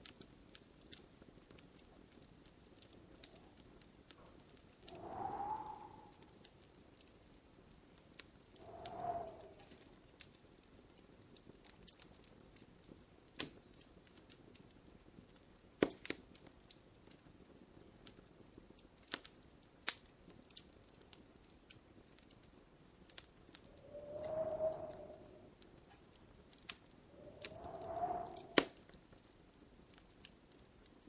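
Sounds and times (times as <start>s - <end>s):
faint low hiss: 0.0s - 19.6s, 20.2s - 31.0s
wood fire crackling: 0.0s - 31.0s.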